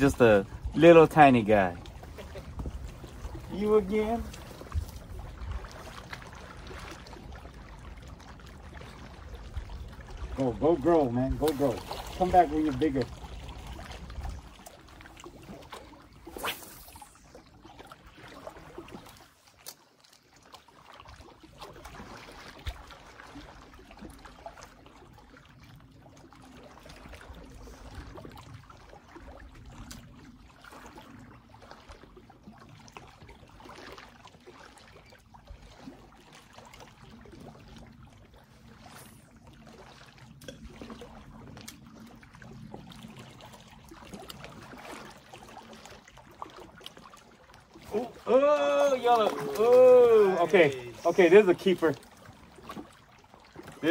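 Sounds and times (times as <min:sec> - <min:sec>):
small waves lapping on rocks: 0:00.0 - 0:25.6, 0:26.4 - 0:53.9.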